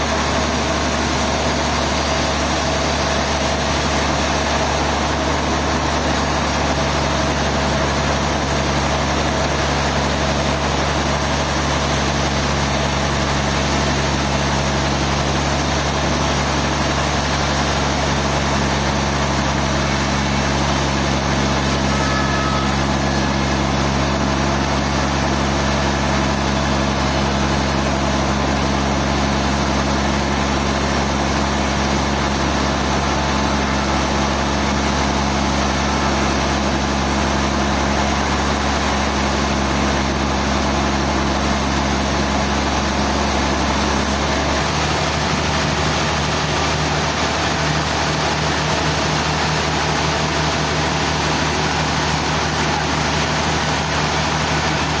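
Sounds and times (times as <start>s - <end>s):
heavy machinery running: 0.0s - 55.0s.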